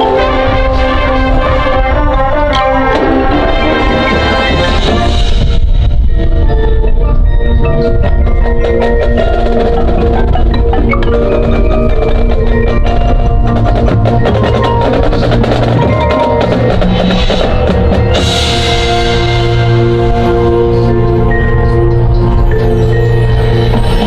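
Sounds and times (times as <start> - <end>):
mallet percussion: 0.0 - 24.0
marching band playing: 0.0 - 24.0.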